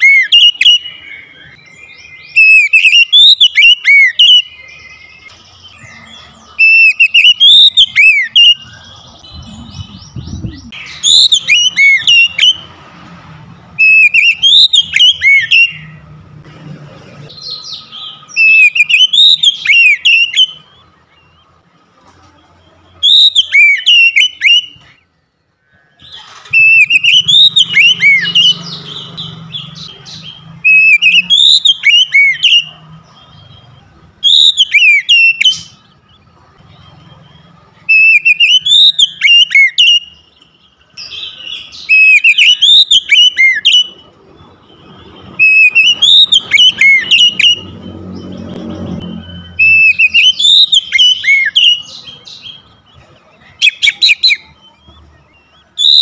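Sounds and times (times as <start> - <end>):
bird singing whistled phrases: 0.0 - 12.7, 13.8 - 16.0, 17.4 - 21.5, 22.9 - 25.0, 26.0 - 36.2, 37.9 - 56.0.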